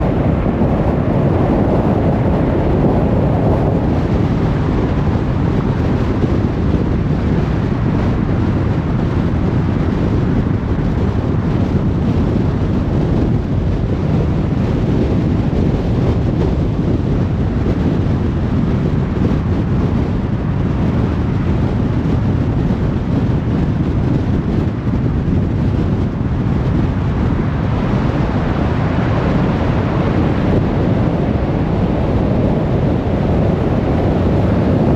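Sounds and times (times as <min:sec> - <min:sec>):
motorway traffic noise: 0:00.0 - 0:34.9.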